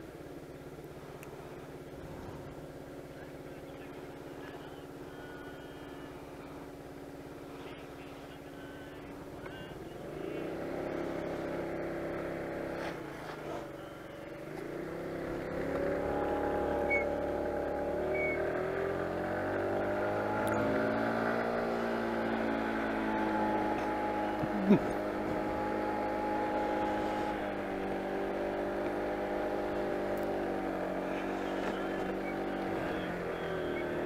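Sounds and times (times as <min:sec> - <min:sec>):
motor scooter engine accelerating: 0:00.0 - 0:34.0.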